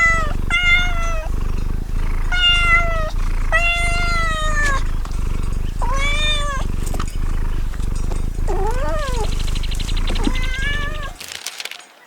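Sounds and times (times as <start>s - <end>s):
cat meowing: 0.0s - 11.2s
cat purring: 0.0s - 11.3s.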